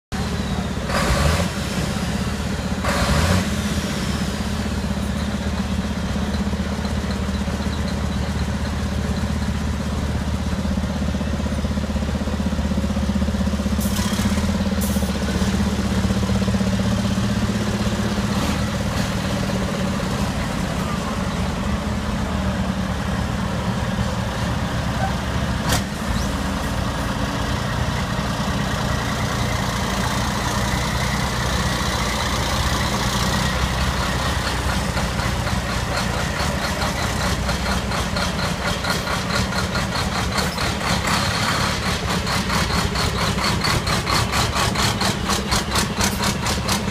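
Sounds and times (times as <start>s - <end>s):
truck diesel engines idling: 0.1s - 46.9s.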